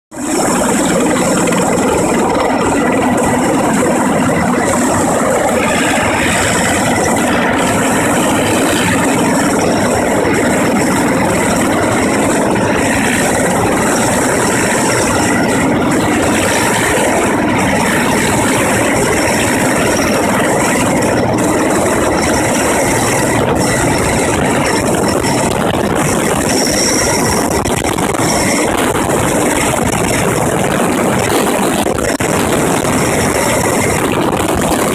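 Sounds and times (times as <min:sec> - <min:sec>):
helicopter hovering: 0:00.1 - 0:34.9.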